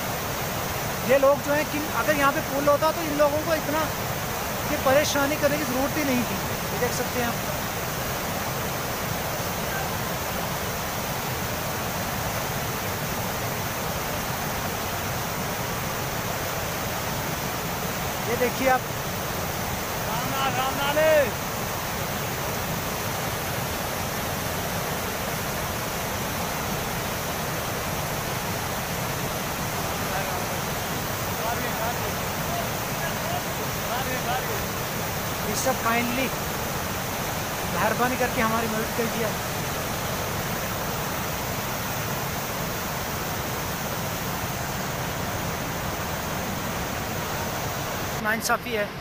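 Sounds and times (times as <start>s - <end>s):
river rushing over rocks: 0.0s - 49.0s.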